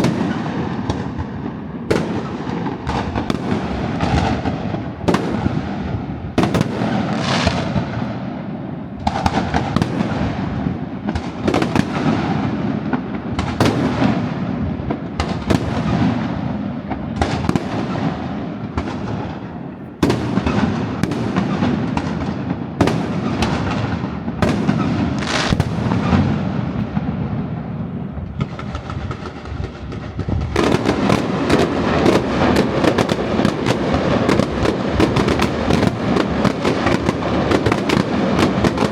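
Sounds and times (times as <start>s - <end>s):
rapid firework crackle: 0.0s - 38.9s.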